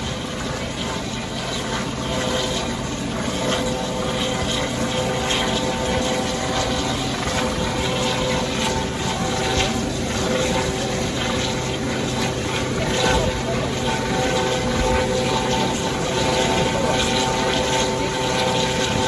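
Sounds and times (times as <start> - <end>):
helicopter running: 0.0 - 19.0.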